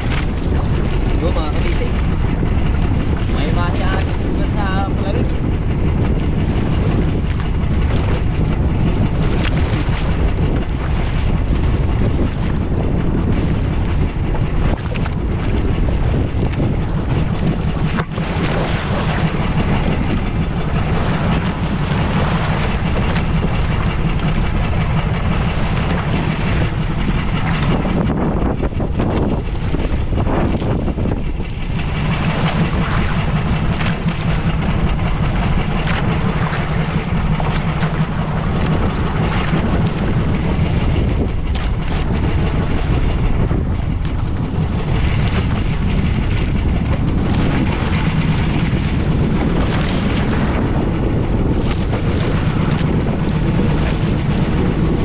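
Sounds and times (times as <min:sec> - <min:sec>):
boat engine running: 0:00.0 - 0:55.0
waves washing: 0:00.0 - 0:55.0
wind buffeting microphone: 0:00.0 - 0:55.0.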